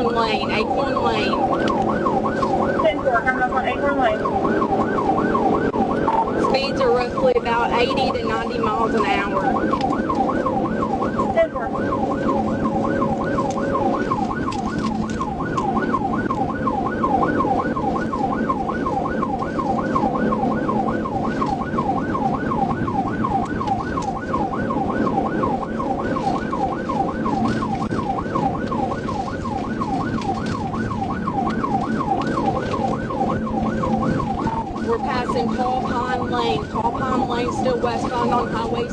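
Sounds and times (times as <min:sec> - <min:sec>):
police siren yelping: 0:00.0 - 0:38.9
road and engine noise: 0:00.0 - 0:38.9.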